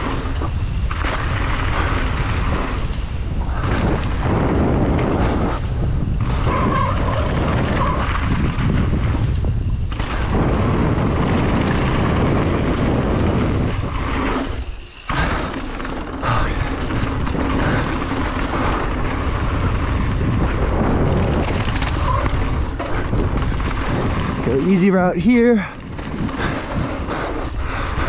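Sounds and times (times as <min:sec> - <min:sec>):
bike tyre and frame rattle: 0:00.0 - 0:28.0
wind rushing over microphone: 0:00.0 - 0:28.0.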